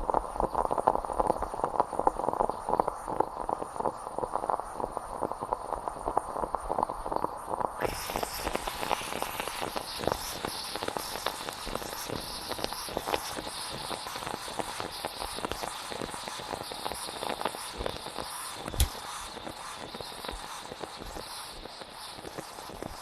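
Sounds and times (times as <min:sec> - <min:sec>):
moka pot sputtering: 0:00.0 - 0:23.0.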